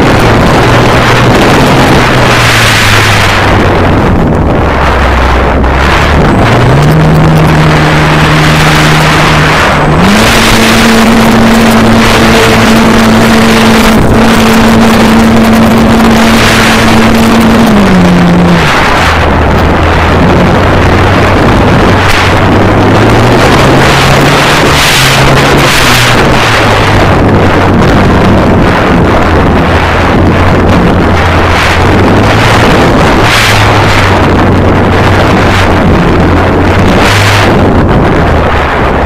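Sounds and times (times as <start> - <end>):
wind rush over microphone: 0.0 - 39.0.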